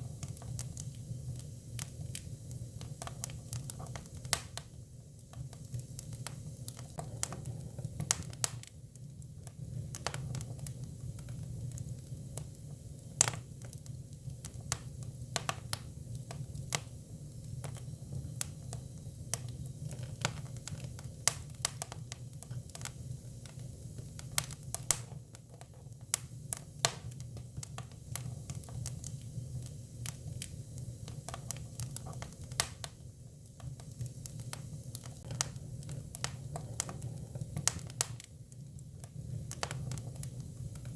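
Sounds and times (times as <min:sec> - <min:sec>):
firewood crackling and popping: 0:00.0 - 0:40.9.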